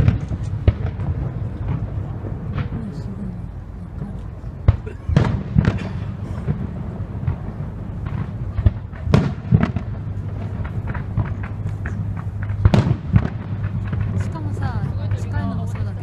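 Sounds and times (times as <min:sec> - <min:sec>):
firework shells bursting: 0:00.0 - 0:03.0, 0:03.9 - 0:15.0.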